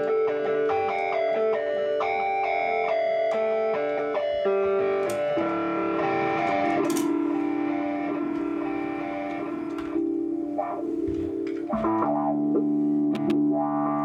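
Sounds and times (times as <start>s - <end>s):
electric guitar with effects: 0.0s - 14.0s.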